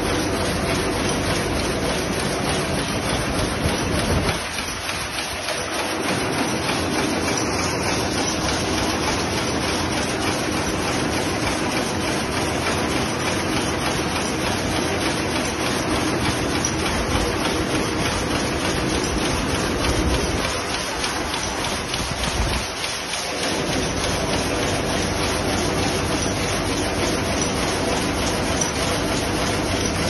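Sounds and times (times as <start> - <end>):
power loom clattering: 0.0 - 30.0.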